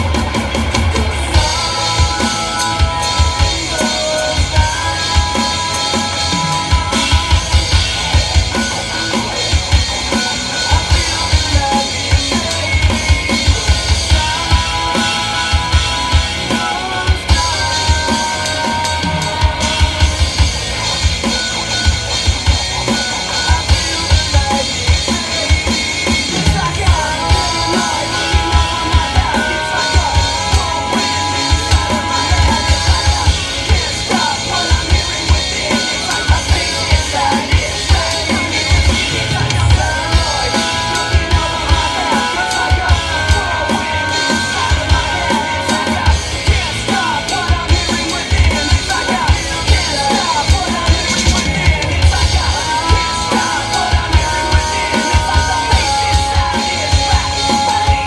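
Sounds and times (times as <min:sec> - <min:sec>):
drum kit playing: 0:00.0 - 0:58.0
heavy rock song over speakers: 0:00.0 - 0:58.0.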